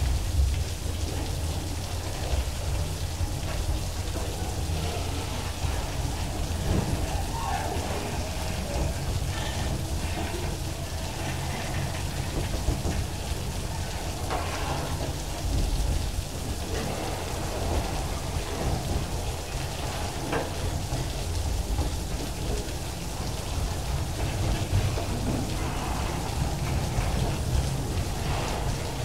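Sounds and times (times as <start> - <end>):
freight train rumbling by: 0.0 - 29.0
heavy rain pouring: 0.0 - 29.0.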